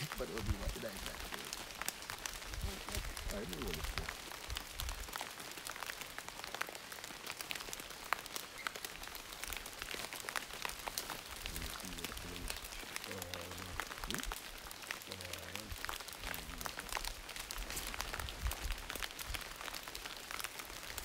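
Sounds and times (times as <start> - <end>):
rain pattering on leaves: 0.0 - 21.0.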